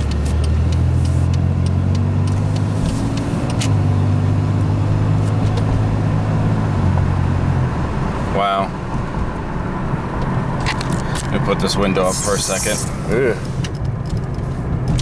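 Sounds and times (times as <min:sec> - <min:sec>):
car engine drone: 0:00.0 - 0:15.0
road noise: 0:00.0 - 0:15.0.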